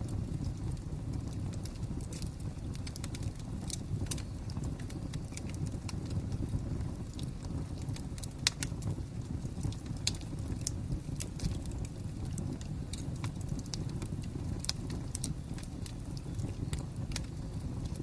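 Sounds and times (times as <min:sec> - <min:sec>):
fire pops and snaps: 0:00.0 - 0:18.0
wood fire crackling: 0:00.0 - 0:18.0.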